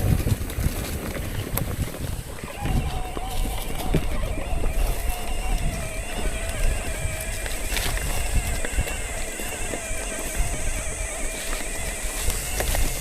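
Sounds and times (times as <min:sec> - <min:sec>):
bicycle rolling over gravel: 0:00.0 - 0:13.0
wind rumbling on microphone: 0:00.0 - 0:13.0
steady wavering tone: 0:02.4 - 0:13.0.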